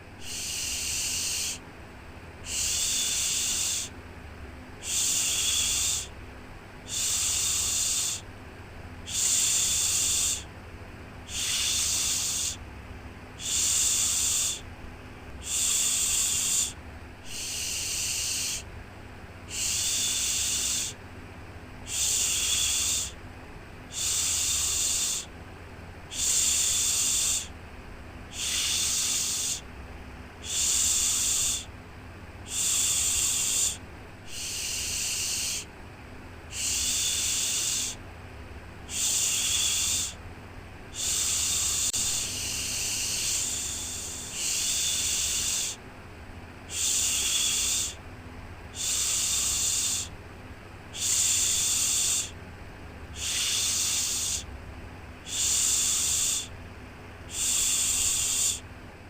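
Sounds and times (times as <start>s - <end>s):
shushing hiss: 0.0s - 1.7s, 2.4s - 4.0s, 4.8s - 6.2s, 6.8s - 10.5s, 11.2s - 12.7s, 13.3s - 14.7s, 15.3s - 18.8s, 19.4s - 21.2s, 21.8s - 25.4s, 26.0s - 27.6s, 28.2s - 29.7s, 30.4s - 31.8s, 32.4s - 45.8s, 46.4s - 50.2s, 50.8s - 52.4s, 53.0s - 56.6s, 57.2s - 58.7s
faint low hum: 0.0s - 59.0s.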